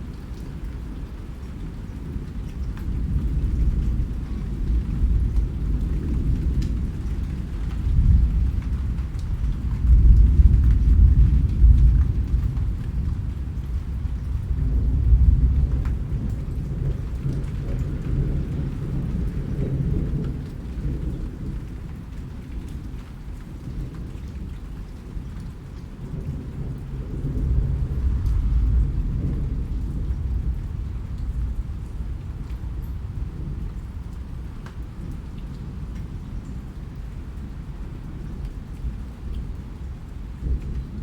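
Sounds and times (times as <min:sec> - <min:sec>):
rain falling: 0:00.0 - 0:41.0
raindrops ticking: 0:00.0 - 0:41.0
low rolling thunder: 0:00.5 - 0:41.0.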